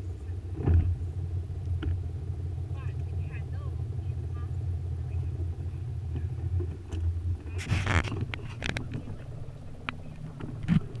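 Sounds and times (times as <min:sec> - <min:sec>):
boat motor rumbling: 0:00.0 - 0:11.0.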